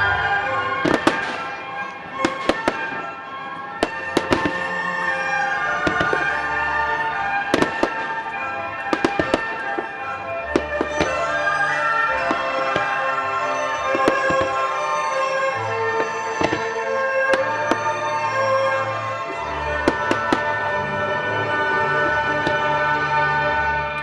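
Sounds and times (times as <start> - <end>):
fireworks bangs: 0.0 - 24.0
music soundtrack: 0.0 - 24.0.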